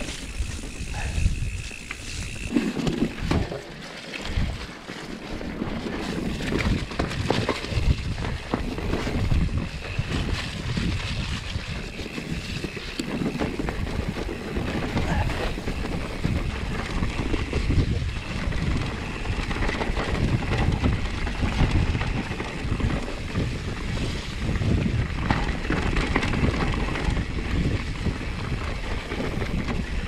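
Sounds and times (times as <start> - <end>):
wind buffeting microphone: 0.0 - 4.7, 5.5 - 30.0.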